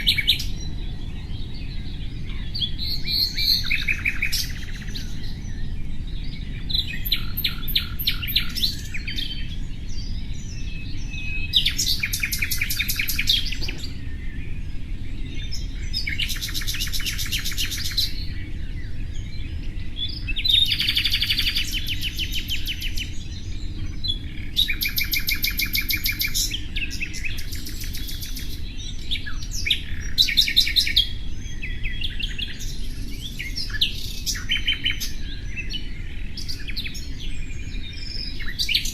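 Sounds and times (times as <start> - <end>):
low background noise: 0.0 - 38.9
nightingale singing trills: 0.0 - 38.9.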